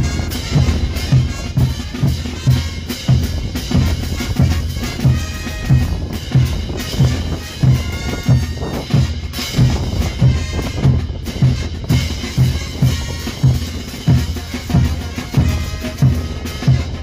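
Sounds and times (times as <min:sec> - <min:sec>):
bass drum and crash cymbals: 0:00.0 - 0:17.0
brass band playing: 0:00.0 - 0:17.0.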